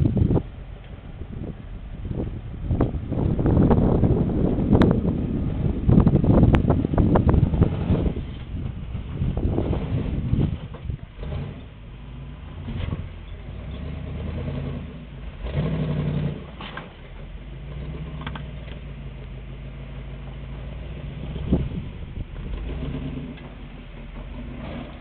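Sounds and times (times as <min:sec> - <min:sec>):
buggy engine revving: 0:00.0 - 0:25.0.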